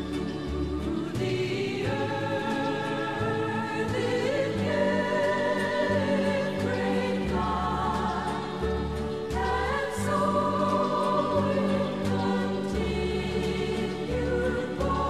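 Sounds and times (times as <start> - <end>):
choir singing slow chords: 0.0 - 15.0.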